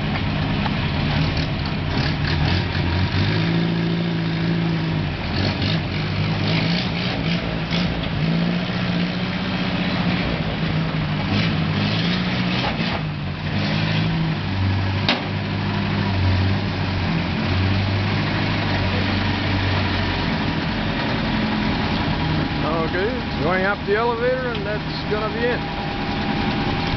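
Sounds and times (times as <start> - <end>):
vehicle engine running: 0.0 - 26.9.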